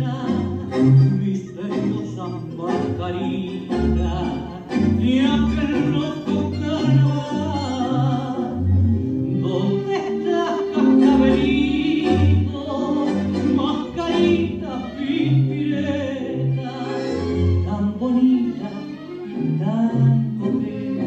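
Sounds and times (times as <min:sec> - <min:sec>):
person singing: 0:00.0 - 0:21.0
tango music: 0:00.0 - 0:21.0.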